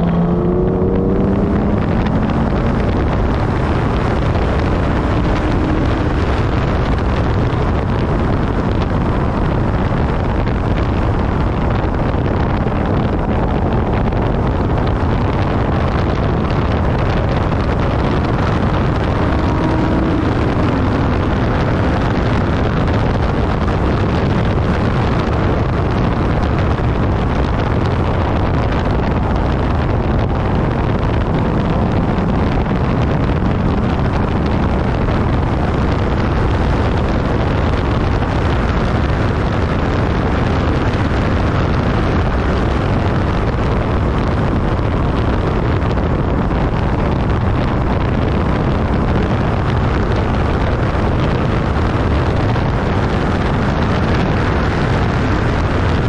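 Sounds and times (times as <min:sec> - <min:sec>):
car engine at speed: 0:00.0 - 0:56.0
wind buffeting microphone: 0:00.0 - 0:56.0.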